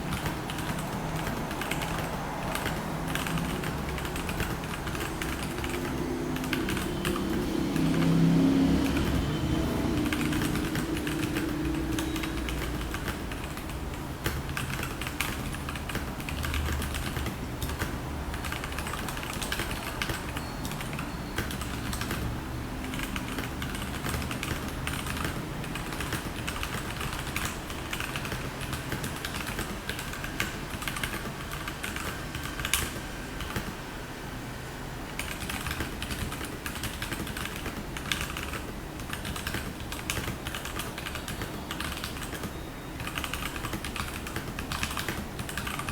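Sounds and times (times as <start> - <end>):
mechanical keyboard typing: 0.0 - 33.8, 35.2 - 45.9.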